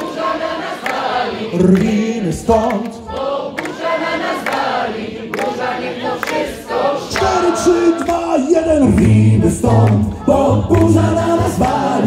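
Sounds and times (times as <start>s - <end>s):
male group singing in harmony: 0.0s - 12.0s.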